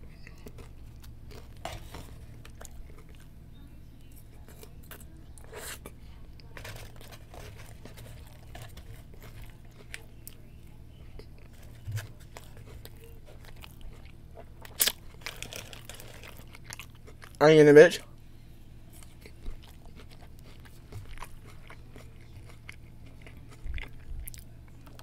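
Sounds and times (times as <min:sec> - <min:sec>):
person chewing food: 0:00.0 - 0:03.4, 0:04.0 - 0:17.4, 0:18.9 - 0:25.0.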